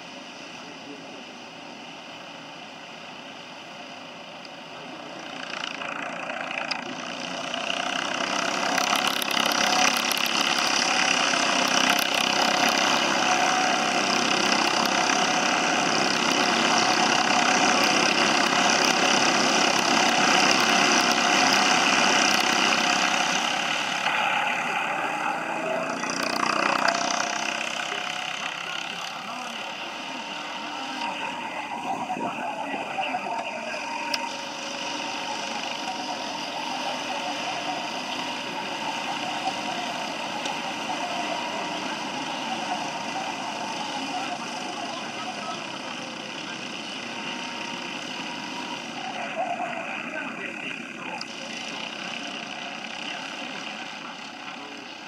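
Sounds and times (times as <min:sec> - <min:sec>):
racing kart engines passing: 0:00.0 - 0:55.0.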